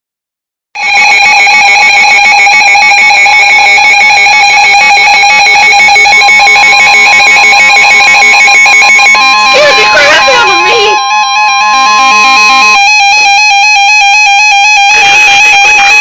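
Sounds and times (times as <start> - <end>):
harsh electronic alert tone: 0.8 - 16.0.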